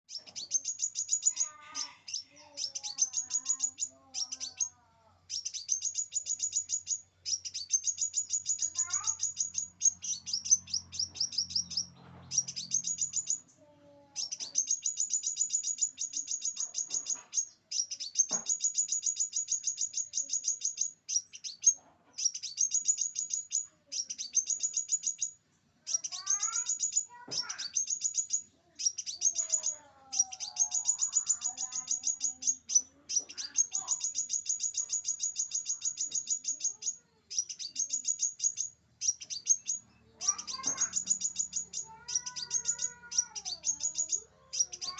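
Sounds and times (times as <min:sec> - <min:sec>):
bird high thin chirps: 0:00.0 - 0:44.9
lower sweeping bird calls: 0:05.3 - 0:13.4, 0:14.2 - 0:44.9.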